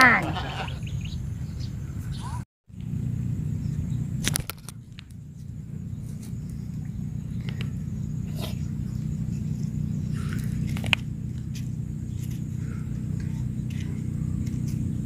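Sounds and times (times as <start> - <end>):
low engine hum: 0.3 - 15.0.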